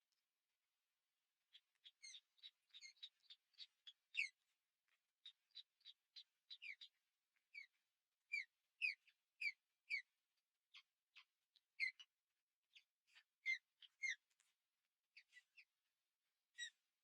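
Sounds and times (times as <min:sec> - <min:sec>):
small birds chirping: 0:01.2 - 0:17.0.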